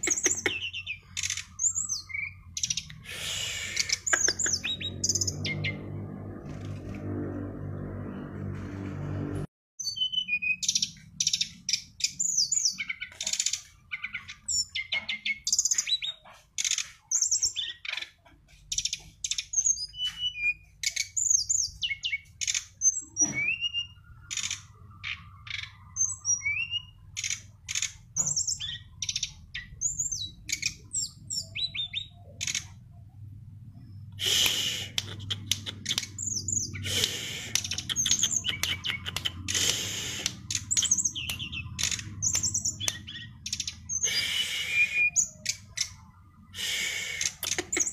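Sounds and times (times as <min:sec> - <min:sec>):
songbird singing: 0:00.0 - 0:06.1, 0:09.8 - 0:47.9.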